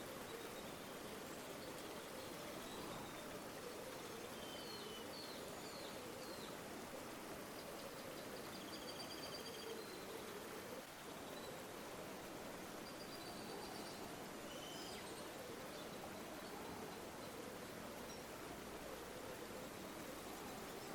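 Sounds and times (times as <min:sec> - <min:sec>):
river water flowing: 0:00.0 - 0:20.9.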